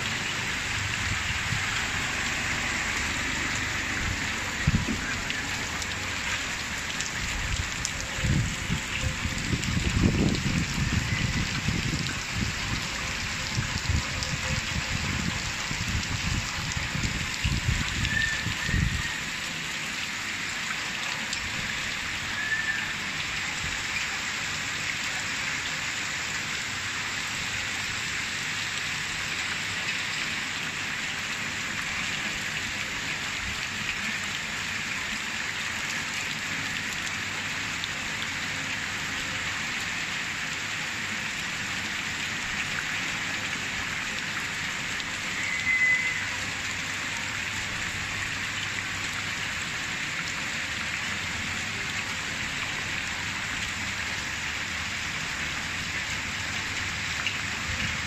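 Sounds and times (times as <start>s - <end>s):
heavy rain on flooded street: 0.0s - 58.0s.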